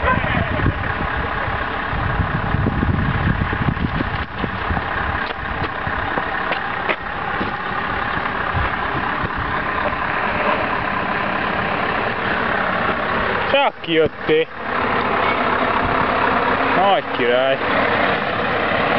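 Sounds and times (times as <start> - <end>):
diesel truck engine pulling away: 0.0 - 18.9.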